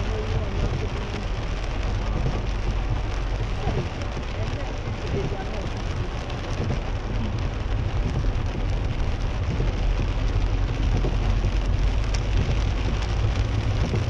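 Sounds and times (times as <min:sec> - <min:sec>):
car and tyres rumbling on wet road: 0:00.0 - 0:14.0
rain pattering on car roof: 0:00.0 - 0:14.0.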